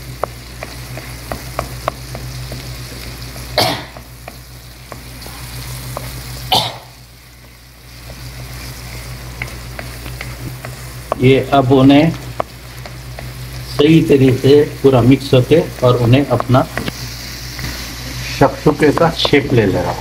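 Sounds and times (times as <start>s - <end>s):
eggs sizzling in oil: 0.0s - 20.0s.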